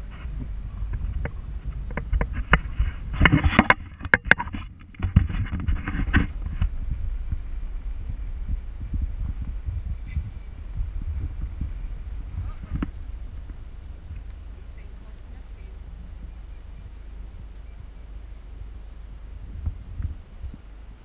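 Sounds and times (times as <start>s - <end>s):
knocks and rattles: 0.0s - 17.6s
vehicle engine low rumble: 0.0s - 21.0s.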